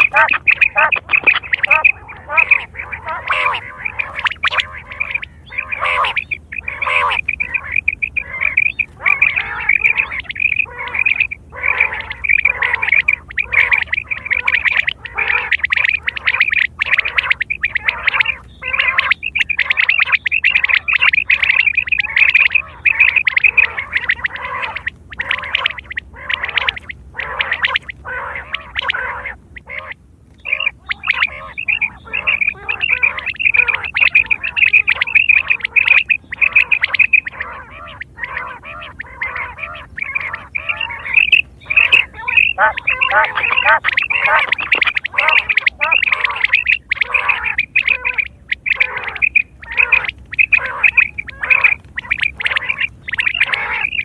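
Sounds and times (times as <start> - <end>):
quail calling: 0.0 - 54.0.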